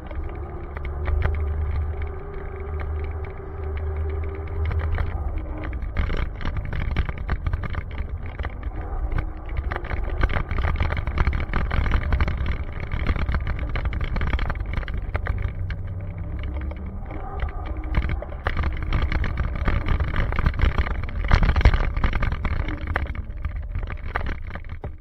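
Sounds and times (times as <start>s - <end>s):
deep road rumble: 0.0s - 25.0s
small rattles and knocks: 0.0s - 25.0s.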